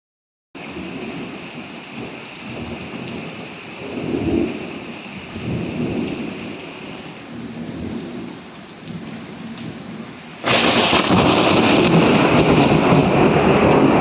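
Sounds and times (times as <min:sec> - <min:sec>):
heavy rain: 0:00.6 - 0:14.0
rolling thunder: 0:00.7 - 0:14.0.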